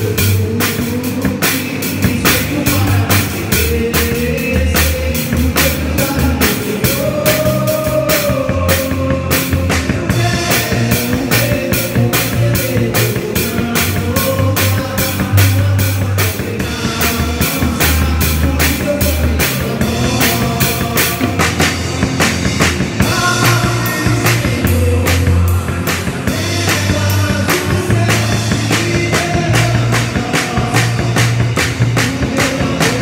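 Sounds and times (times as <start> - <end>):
drums and cymbals: 0.0 - 33.0
rock band playing live: 0.0 - 33.0.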